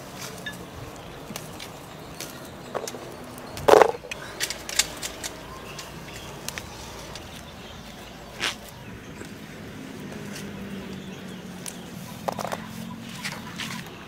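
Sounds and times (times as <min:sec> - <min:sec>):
rustling leaves: 0:00.0 - 0:14.0.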